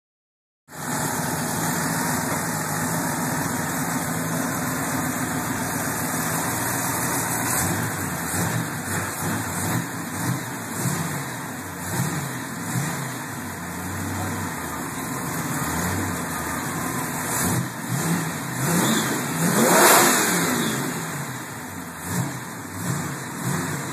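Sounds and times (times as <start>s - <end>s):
engine idling and revving: 0.7s - 23.9s.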